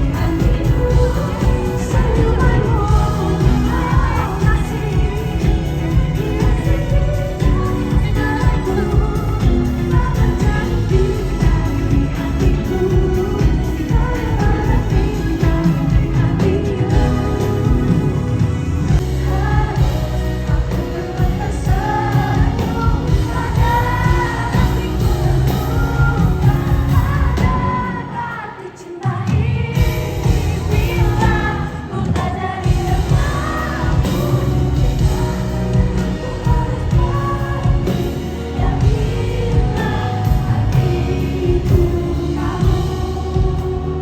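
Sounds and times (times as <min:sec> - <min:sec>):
pop song with singer and beat: 0:00.0 - 0:44.0.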